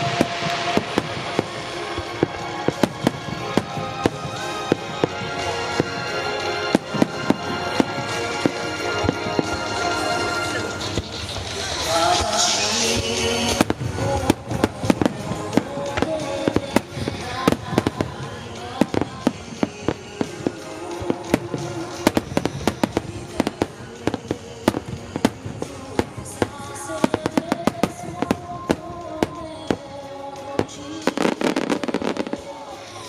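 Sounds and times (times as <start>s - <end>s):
fireworks bursting: 0.0s - 33.0s
music: 0.0s - 33.0s.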